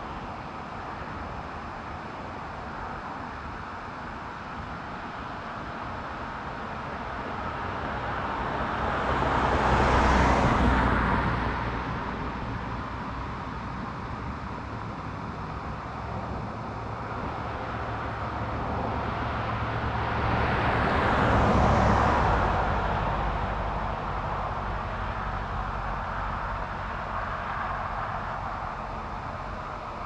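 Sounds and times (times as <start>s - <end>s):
vehicles passing: 2.7s - 30.0s.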